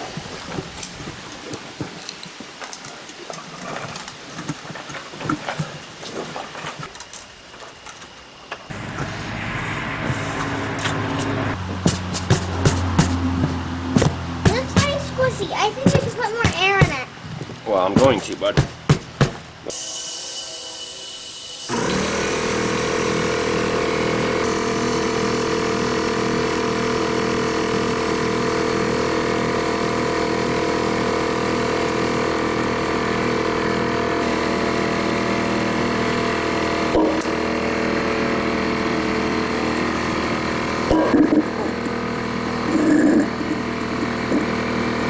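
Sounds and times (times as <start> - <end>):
air compressor running: 8.7 - 45.0.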